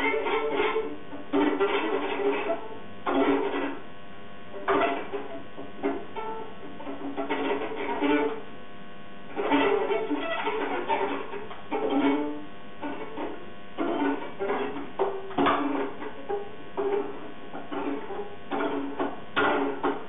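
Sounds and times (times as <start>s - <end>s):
violin plucked pizzicato: 0.0s - 3.8s, 4.5s - 8.4s, 9.3s - 20.0s.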